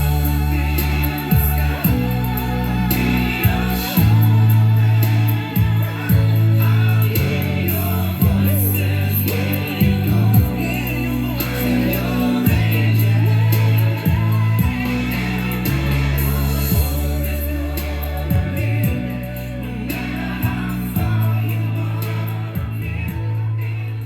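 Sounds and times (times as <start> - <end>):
song with singing over speakers: 0.0 - 24.0
sustained bass line: 0.0 - 24.0.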